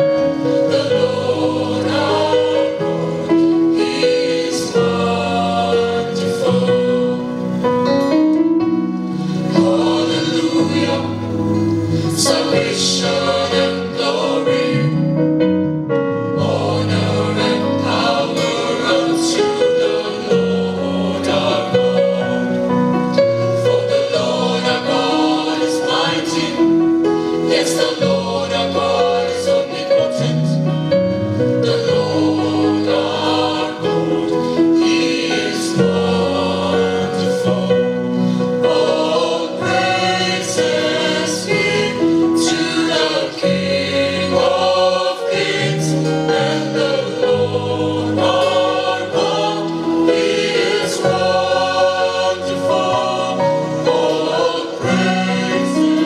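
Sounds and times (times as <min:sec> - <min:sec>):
choir singing in harmony: 0:00.0 - 0:56.0
keyboard: 0:00.0 - 0:56.0.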